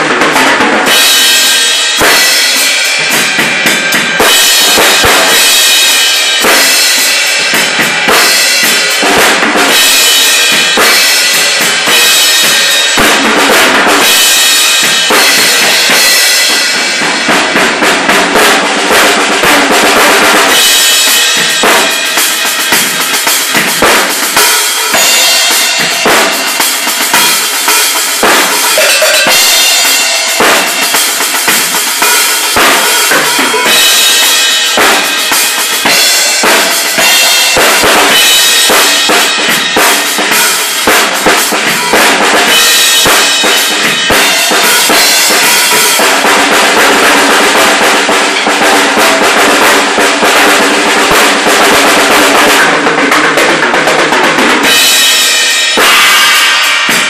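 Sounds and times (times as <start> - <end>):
drum kit playing: 0.0 - 57.0.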